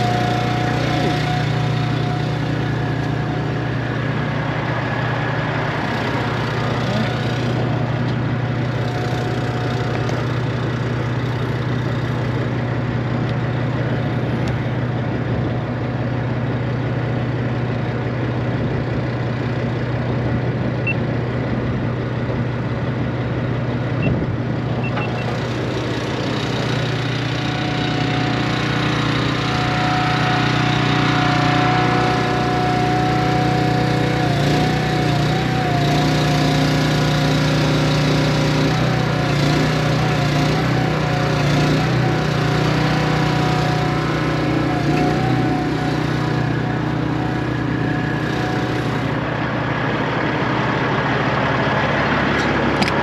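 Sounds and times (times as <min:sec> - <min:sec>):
pony motor running: 0:00.0 - 0:14.8, 0:23.9 - 0:53.0
truck engine idling: 0:00.0 - 0:53.0.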